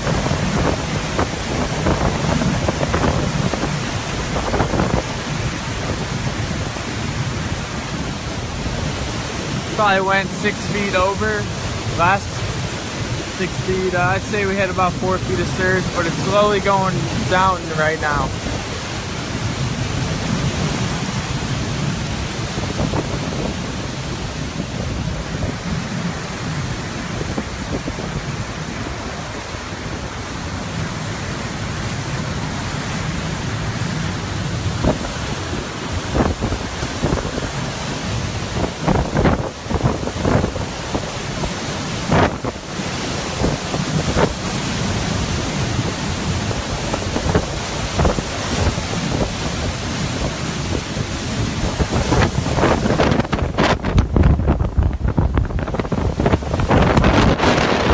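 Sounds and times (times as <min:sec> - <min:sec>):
rain and water rushing: 0:00.0 - 0:57.9
wind gusting on microphone: 0:00.0 - 0:57.9.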